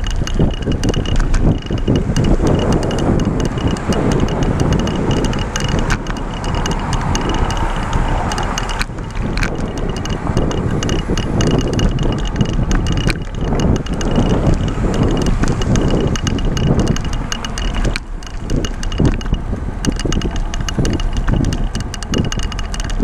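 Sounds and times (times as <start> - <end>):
light ticks and rattles: 0.0 - 23.0
tyre and road rumble: 0.0 - 23.0
wind buffeting microphone: 0.0 - 23.0.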